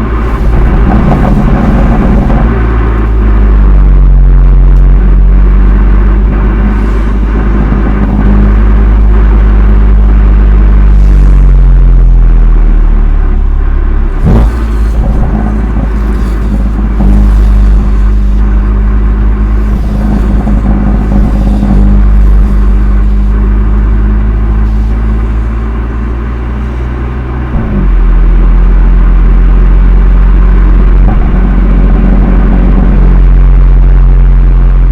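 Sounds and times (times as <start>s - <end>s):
car exhaust running loud: 0.0s - 34.9s.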